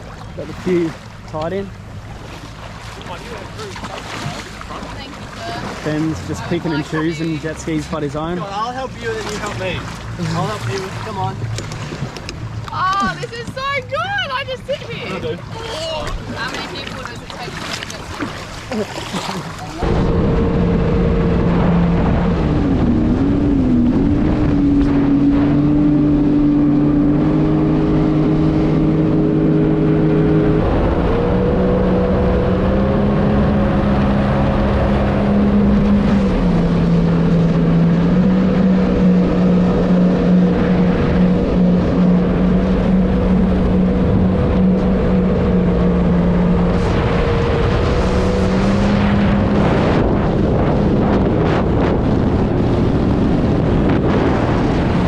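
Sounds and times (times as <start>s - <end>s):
jet ski engines running: 0.0s - 55.0s
wind buffeting microphone: 0.0s - 55.0s.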